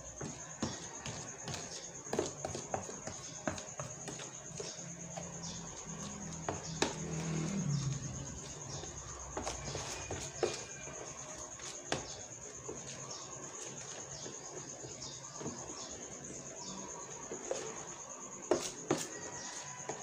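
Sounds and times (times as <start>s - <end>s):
batter being mixed in a tub: 0.0s - 20.0s
cricket trilling: 0.0s - 20.0s.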